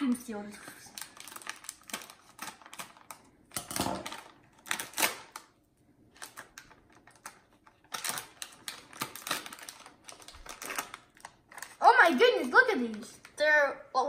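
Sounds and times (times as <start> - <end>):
plastic bag crinkling: 0.6 - 5.5, 6.1 - 13.4
scissors snipping plastic bag: 1.0 - 5.5, 6.2 - 13.0.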